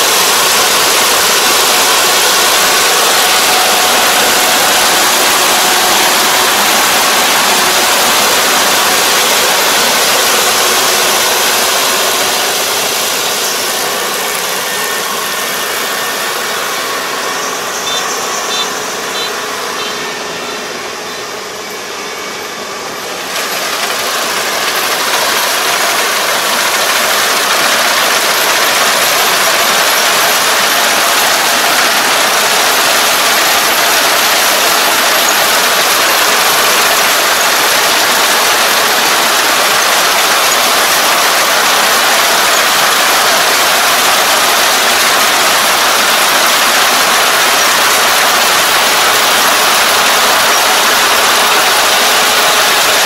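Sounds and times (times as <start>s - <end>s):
combine harvester running: 0.0s - 53.0s.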